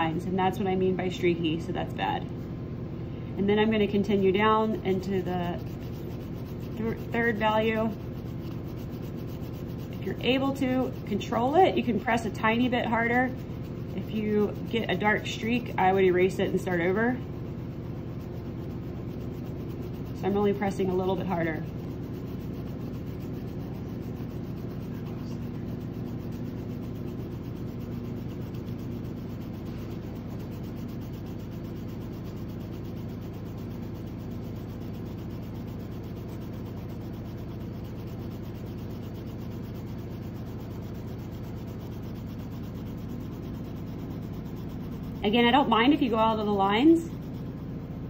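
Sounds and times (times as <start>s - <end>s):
washing machine hum: 0.0s - 48.0s
pencil shading on paper: 3.4s - 48.0s.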